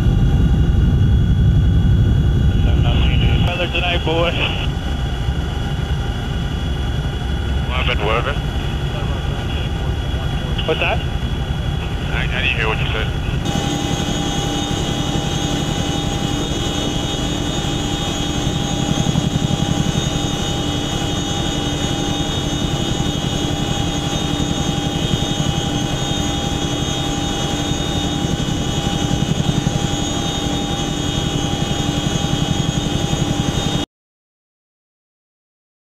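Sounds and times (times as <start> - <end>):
helicopter rotor beat: 0.0 - 33.8
helicopter whine: 0.0 - 33.8.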